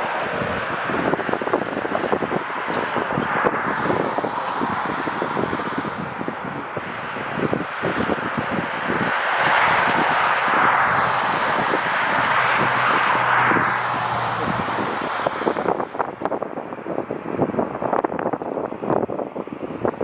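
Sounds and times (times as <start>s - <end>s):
jet engines passing: 0.0s - 17.9s
wind buffeting microphone: 0.0s - 20.0s.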